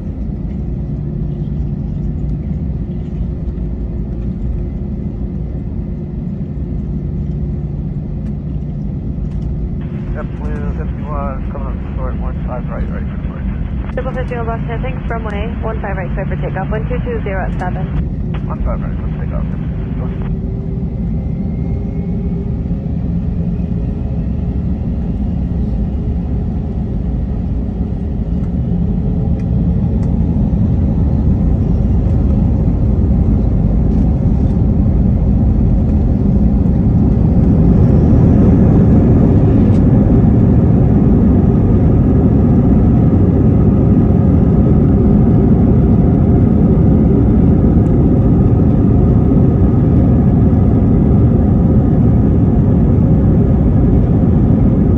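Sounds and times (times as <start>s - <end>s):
jet engines rumbling in cabin: 0.0s - 54.9s.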